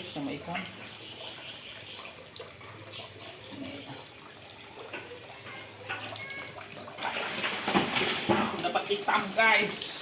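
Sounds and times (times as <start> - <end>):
pond water splashing: 0.0 - 10.0.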